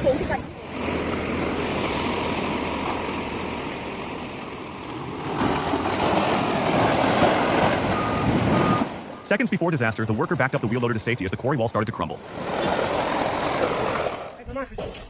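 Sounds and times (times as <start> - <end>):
floodwater rushing: 0.0 - 14.4.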